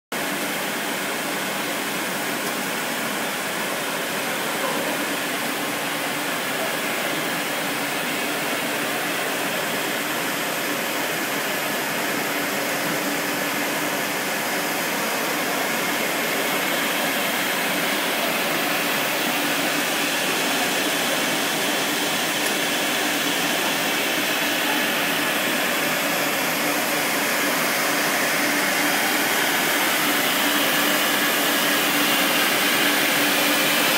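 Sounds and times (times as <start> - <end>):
extrusion machine running: 0.2 - 33.9.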